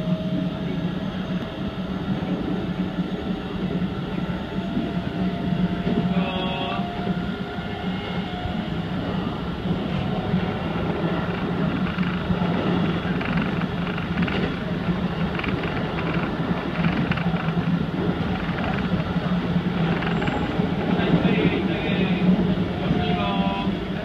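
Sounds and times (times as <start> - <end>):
constant low hum: 0.0 - 24.0
train wheels rumbling on rail: 0.0 - 24.0.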